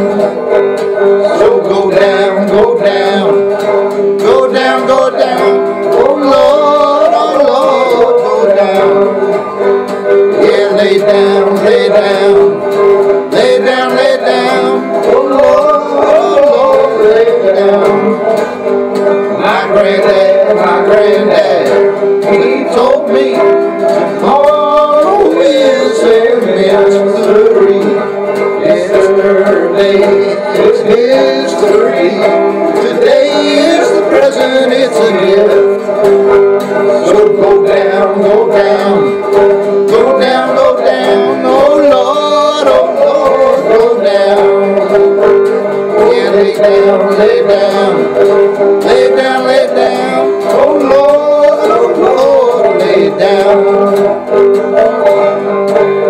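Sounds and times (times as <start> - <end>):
acoustic guitar: 0.0 - 56.0
man singing: 0.0 - 56.0.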